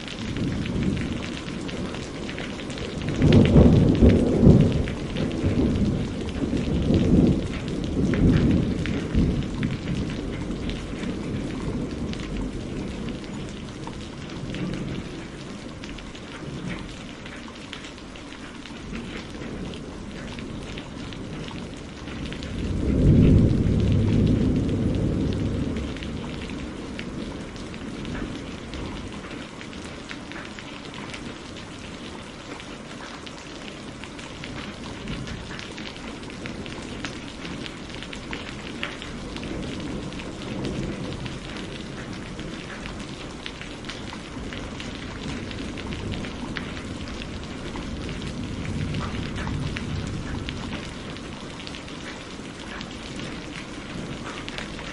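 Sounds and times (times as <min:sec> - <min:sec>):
thunder rumbling: 0:00.0 - 0:17.3, 0:18.7 - 0:32.6, 0:33.6 - 0:54.9
steady rain: 0:00.0 - 0:54.9.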